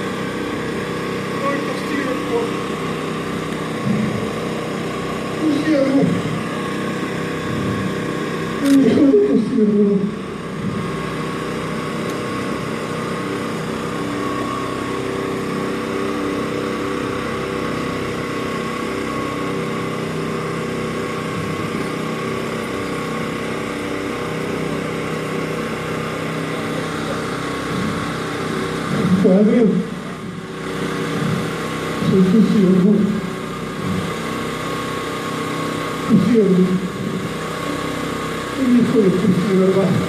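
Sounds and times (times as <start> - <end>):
small engine idling: 0.0 - 40.0.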